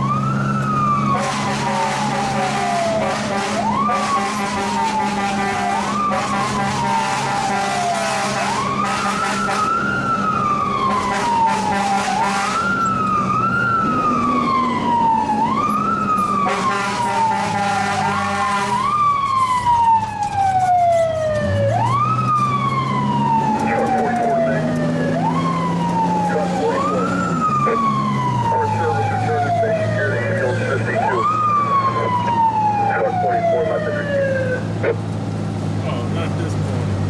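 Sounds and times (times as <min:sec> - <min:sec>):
fire truck siren: 0:00.0 - 0:37.0.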